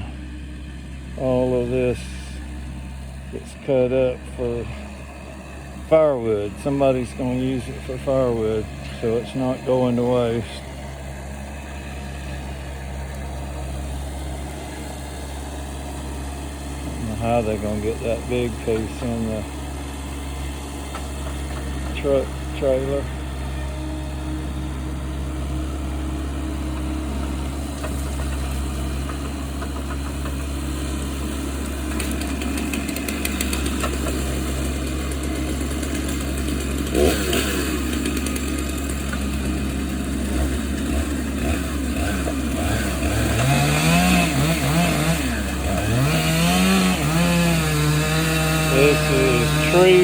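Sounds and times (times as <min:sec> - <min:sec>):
heavy engine humming: 0:00.0 - 0:50.0
chainsaw revving: 0:01.0 - 0:50.0.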